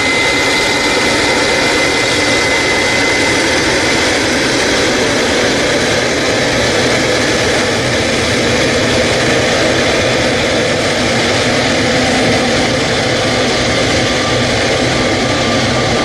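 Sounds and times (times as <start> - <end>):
faint engine whine: 0.0 - 16.0
jet engines roaring: 0.0 - 16.0.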